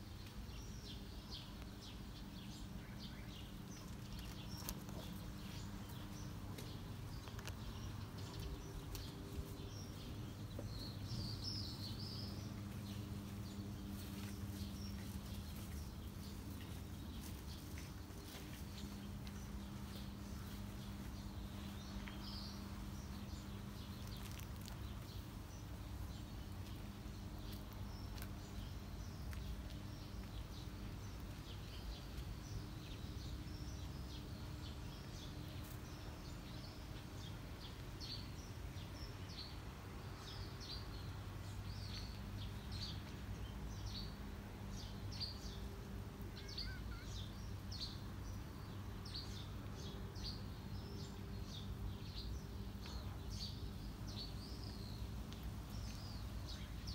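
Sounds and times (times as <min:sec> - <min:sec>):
low outdoor hum: 0:00.0 - 0:56.9
small birds chirping: 0:00.0 - 0:56.9.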